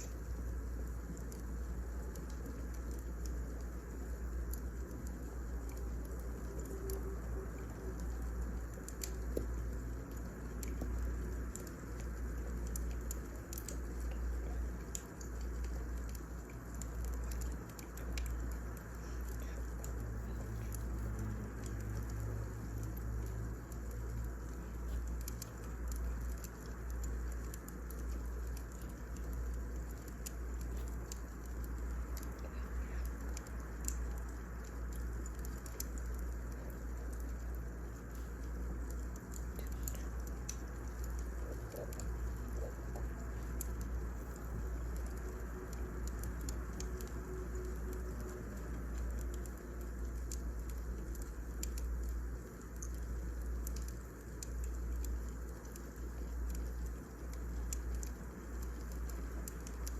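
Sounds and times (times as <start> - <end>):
fire burning low rumble: 0.0 - 59.9
fire crackling and popping: 0.0 - 59.9.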